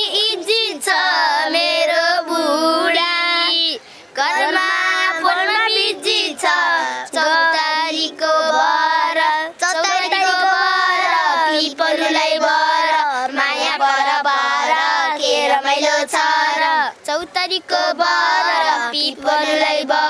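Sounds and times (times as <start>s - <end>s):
children singing: 0.0s - 3.4s, 4.2s - 20.0s.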